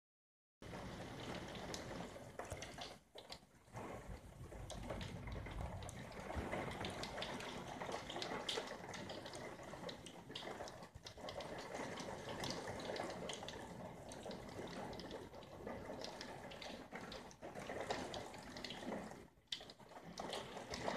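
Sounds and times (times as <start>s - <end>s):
rain falling: 0.6s - 20.9s
raindrops tapping window glass: 0.6s - 20.9s.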